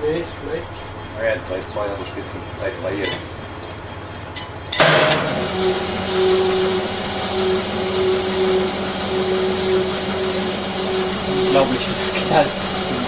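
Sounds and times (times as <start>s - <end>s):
testing machine drive humming: 0.0s - 13.0s.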